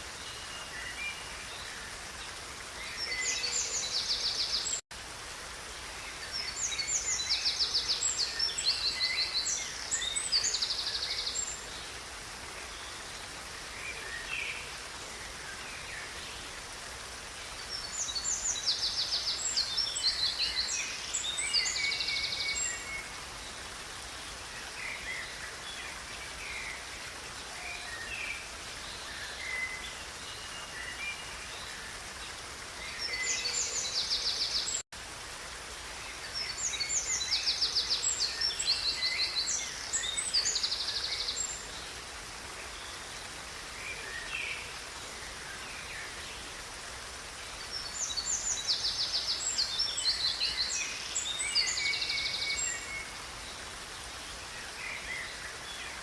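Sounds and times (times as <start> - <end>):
songbirds singing: 0.0 - 4.8, 5.8 - 34.8, 36.0 - 56.0.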